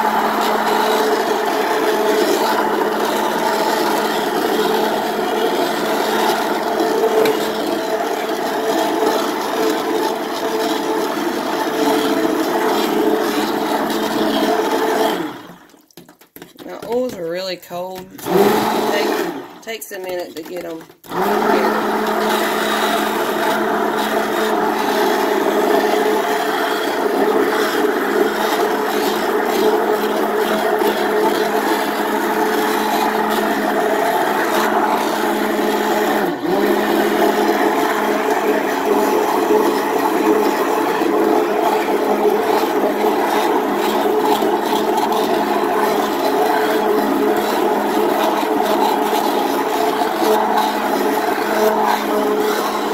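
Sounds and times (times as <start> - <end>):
stick blender running: 0.0 - 52.9.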